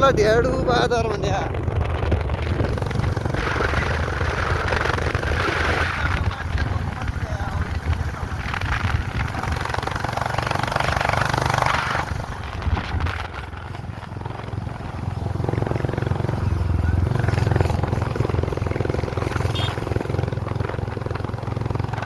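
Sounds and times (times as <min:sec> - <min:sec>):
knocks and rattles over bumps: 0:00.0 - 0:22.0
vehicle engine and road noise: 0:00.0 - 0:22.0.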